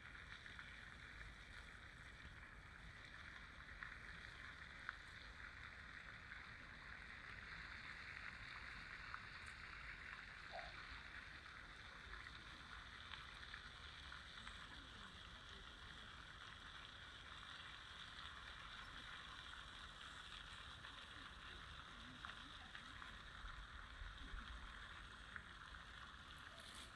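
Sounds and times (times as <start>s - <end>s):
flowing water: 0.0s - 26.9s.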